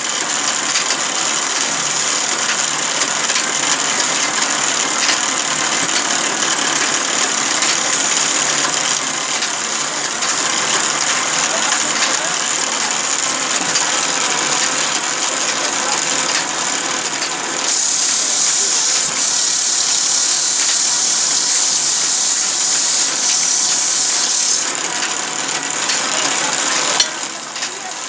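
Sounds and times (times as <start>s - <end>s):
sawmill machinery hissing: 0.0s - 28.0s.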